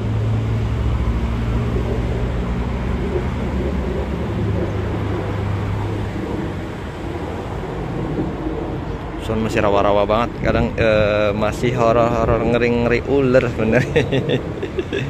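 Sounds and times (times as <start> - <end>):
city background noise: 0.0 - 15.0
low motor hum: 0.0 - 15.0.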